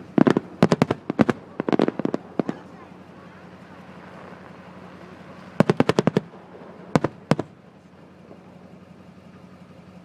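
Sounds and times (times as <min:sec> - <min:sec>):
fireworks bangs: 0:00.0 - 0:08.7.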